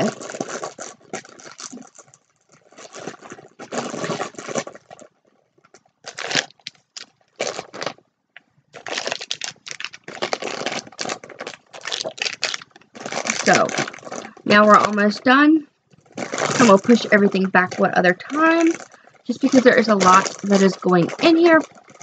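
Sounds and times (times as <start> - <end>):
packaging rustling and crinkling: 0.0 - 8.1, 8.7 - 22.0.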